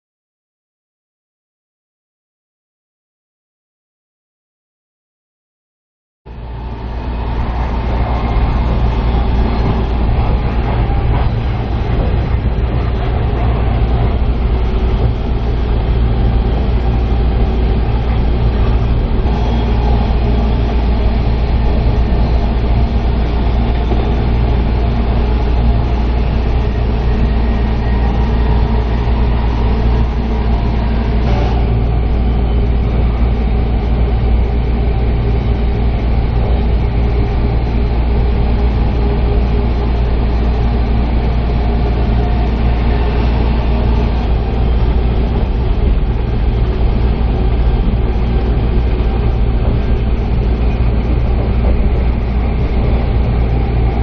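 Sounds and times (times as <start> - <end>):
train rumbling at speed: 6.3 - 54.0.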